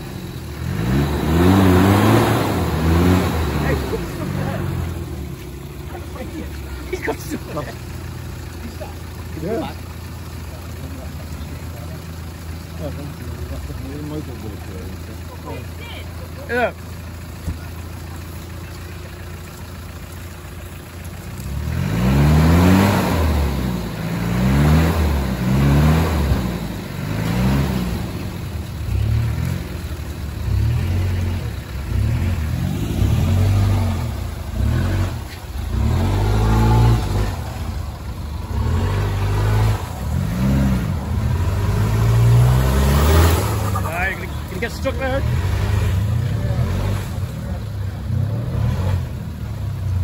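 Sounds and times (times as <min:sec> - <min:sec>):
off-road vehicle engine revving: 0:00.0 - 0:50.0.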